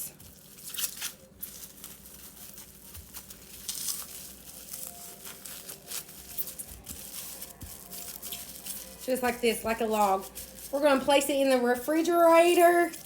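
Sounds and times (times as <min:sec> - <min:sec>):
parchment paper crinkling: 0:00.0 - 0:13.0.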